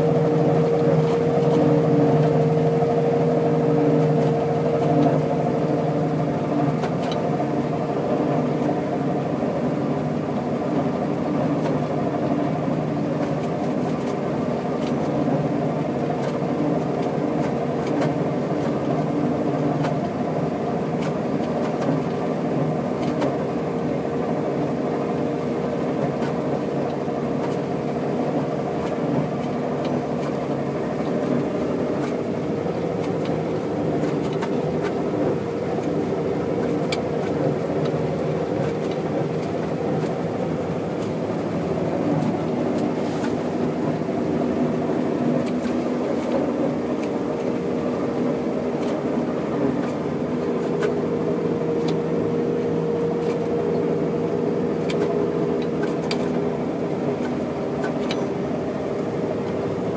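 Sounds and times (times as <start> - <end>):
high machinery whine: 0.0 - 21.4, 22.1 - 59.9
combine harvester engine drone: 0.0 - 59.9.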